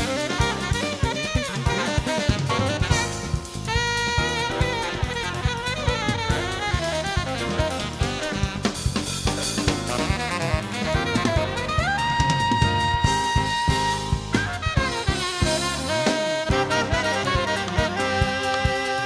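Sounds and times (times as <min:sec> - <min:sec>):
fast lead run to held high note: 0:00.0 - 0:19.0
jazz fusion band playing: 0:00.0 - 0:19.0.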